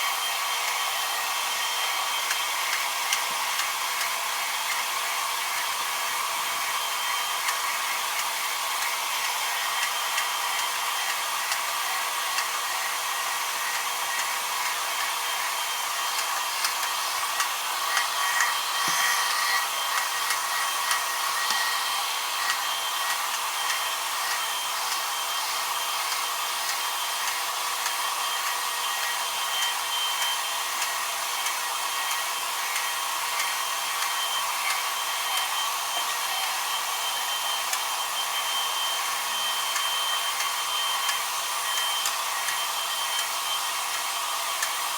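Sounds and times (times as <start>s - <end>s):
extraction vacuum running: 0.0s - 44.9s.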